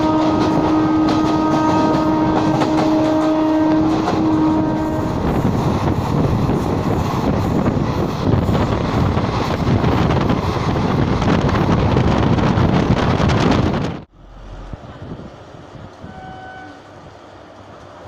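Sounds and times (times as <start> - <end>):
wind buffeting microphone: 0.0 - 16.3
train rushing at speed: 0.0 - 18.0.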